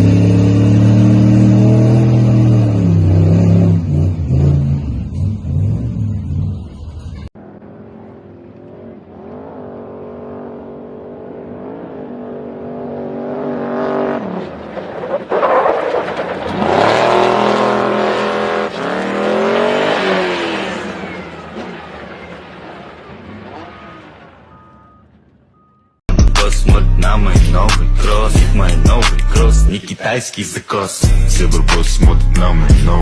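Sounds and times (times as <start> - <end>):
off-road vehicle engine revving: 0.0 - 29.7, 31.1 - 33.0.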